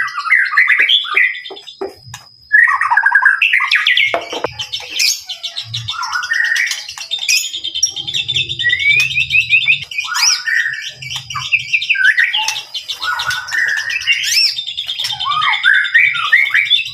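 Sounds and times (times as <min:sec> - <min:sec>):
bird singing: 0:00.0 - 0:16.9.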